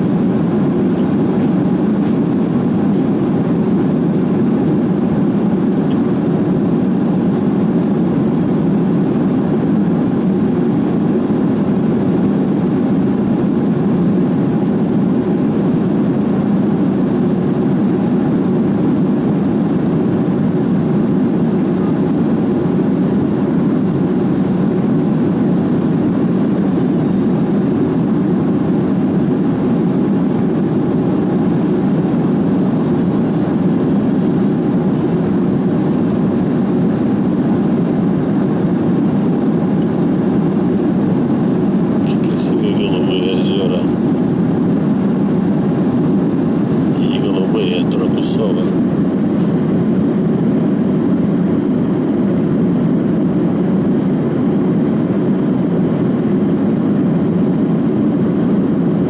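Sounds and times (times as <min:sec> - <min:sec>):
airliner cabin engine hum: 0:00.0 - 0:59.0.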